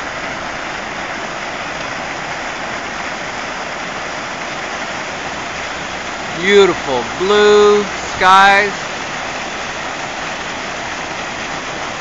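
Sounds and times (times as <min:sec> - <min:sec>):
fountain splashing into pool: 0:00.0 - 0:12.0.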